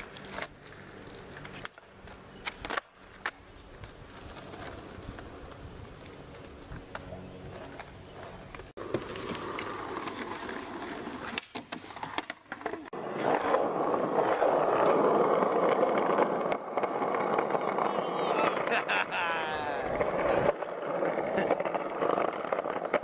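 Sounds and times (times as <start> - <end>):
skateboard clacks: 0.0 - 18.9, 19.8 - 23.0
skateboard wheels rolling on concrete: 0.0 - 23.0.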